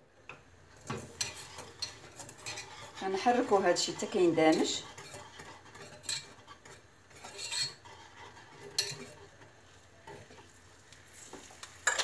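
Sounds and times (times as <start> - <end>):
spatula scraping saucepan: 0.8 - 12.0.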